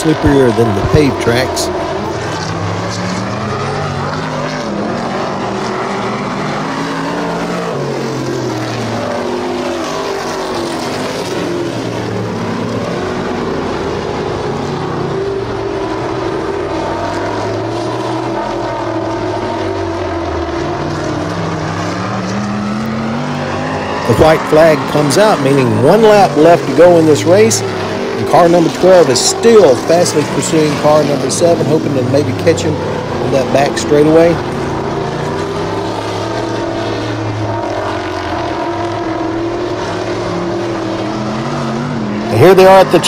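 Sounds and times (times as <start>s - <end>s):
racing car engines: 0.0s - 43.0s.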